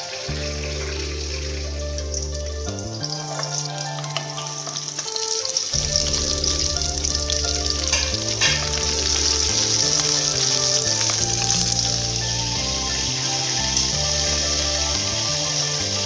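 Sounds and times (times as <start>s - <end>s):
background music with low notes: 0.0s - 16.0s
garlic sizzling in oil: 0.0s - 16.0s.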